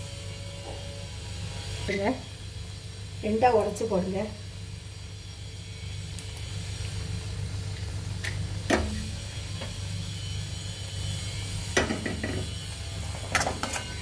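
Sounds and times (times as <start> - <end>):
steady low hum: 0.0 - 13.4
nuts sizzling in pan: 0.0 - 14.0.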